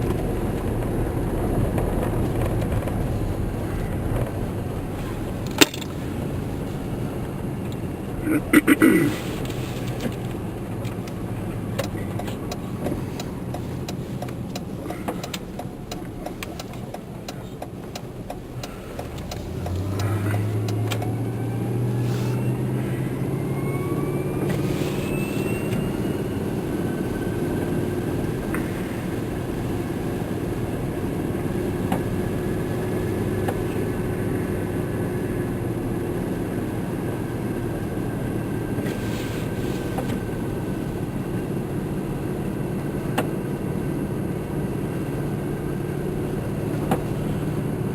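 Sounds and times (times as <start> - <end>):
vehicle engine accelerating: 0.0 - 47.9.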